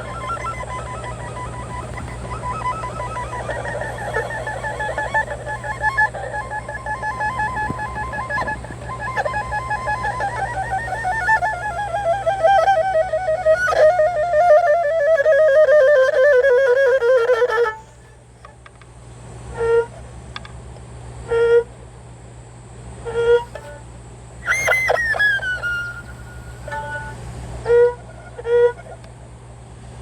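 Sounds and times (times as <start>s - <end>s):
erhu trill sliding down: 0.0s - 18.2s, 19.6s - 20.0s, 21.3s - 21.8s, 23.0s - 23.8s, 24.4s - 29.1s
short erhu notes: 0.0s - 18.6s, 19.5s - 20.1s, 21.2s - 21.8s, 23.0s - 29.1s.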